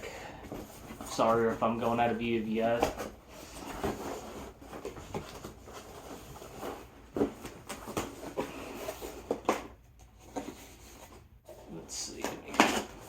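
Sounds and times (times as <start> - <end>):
cardboard box rustling: 0.4 - 13.0.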